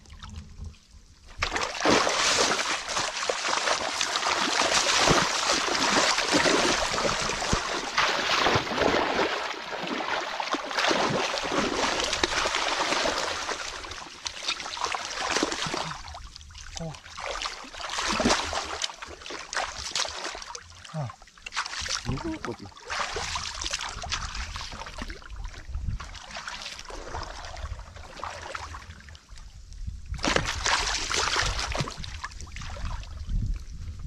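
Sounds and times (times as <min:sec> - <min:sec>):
muddy water splashing: 0:01.3 - 0:29.2, 0:30.1 - 0:33.3.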